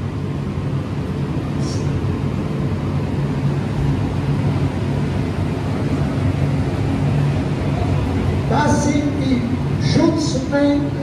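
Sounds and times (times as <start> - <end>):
furnace burner droning: 0.0 - 11.0.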